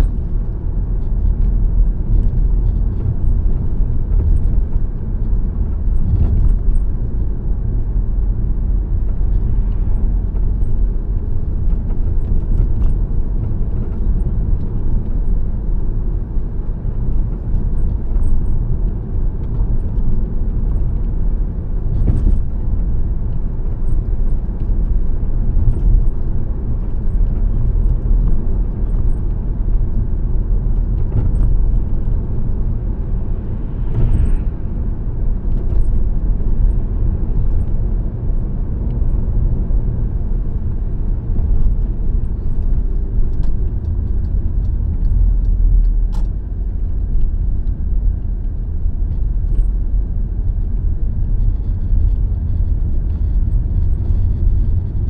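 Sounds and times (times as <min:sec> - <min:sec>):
car driving on road: 0:00.0 - 0:55.0.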